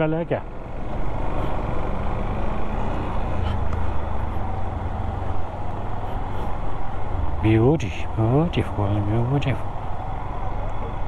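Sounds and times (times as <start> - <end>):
motorcycle engine hum: 0.0 - 11.0
wind and road noise: 0.0 - 11.0.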